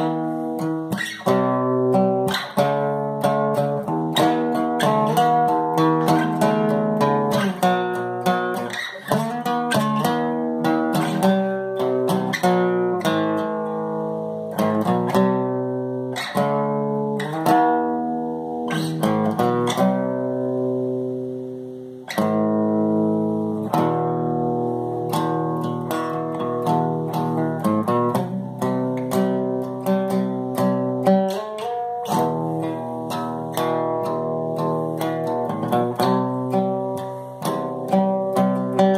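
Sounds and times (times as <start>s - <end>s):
solo guitar playing: 0.0s - 38.9s.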